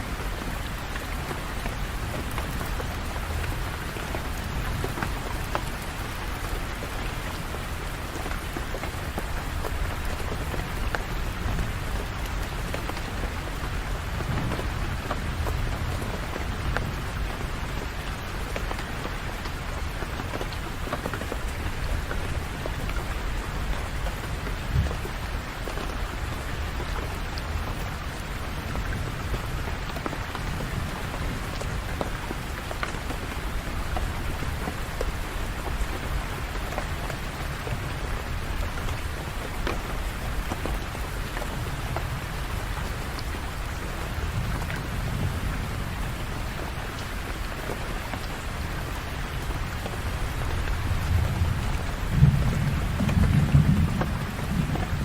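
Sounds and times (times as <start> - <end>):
steady rain on hard surfaces: 0.0 - 55.0.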